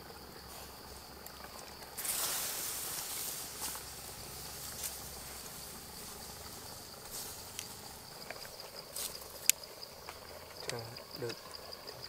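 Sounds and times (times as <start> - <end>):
insects chirring: 0.0 - 12.0
outdoor background hiss: 0.0 - 12.0.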